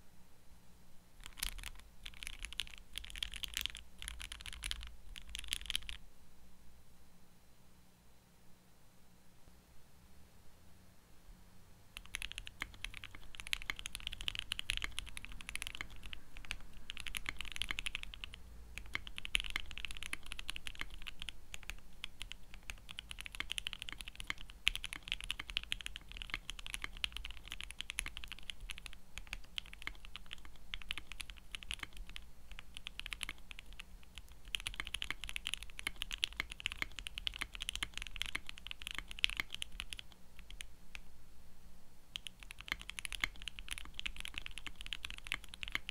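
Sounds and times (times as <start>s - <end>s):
fast mechanical keyboard typing: 1.2s - 6.0s, 12.0s - 40.7s, 42.2s - 45.9s.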